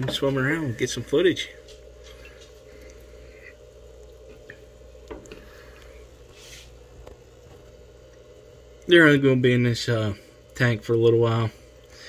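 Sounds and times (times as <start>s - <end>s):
aquarium equipment humming: 0.0s - 12.0s
soft hiss: 0.2s - 12.0s.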